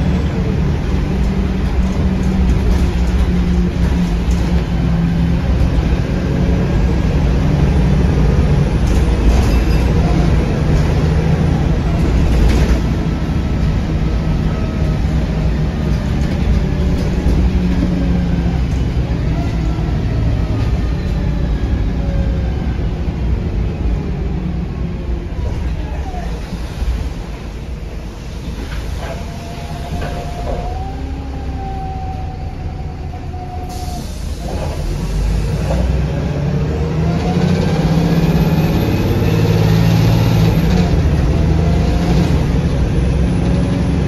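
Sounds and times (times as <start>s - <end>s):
bus diesel engine running: 0.0s - 44.0s
road noise: 0.0s - 44.0s.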